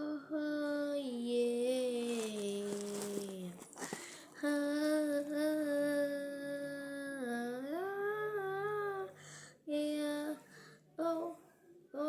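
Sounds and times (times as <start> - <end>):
child singing wordless melody: 0.0 - 3.6, 4.3 - 12.0.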